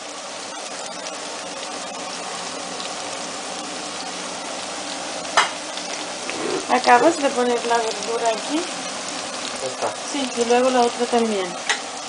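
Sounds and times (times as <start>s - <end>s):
aubergine sizzling in hot oil: 0.0s - 12.0s.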